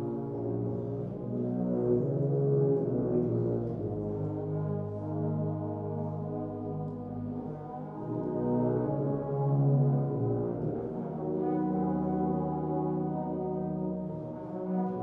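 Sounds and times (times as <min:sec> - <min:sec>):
low brass ensemble playing: 0:00.0 - 0:15.0.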